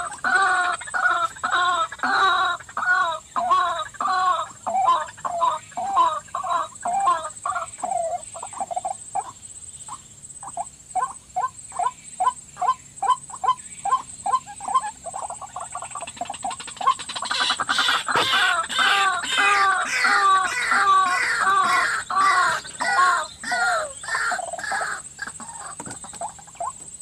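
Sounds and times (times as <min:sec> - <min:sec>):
waterhens croaking calls: 0:00.0 - 0:27.0.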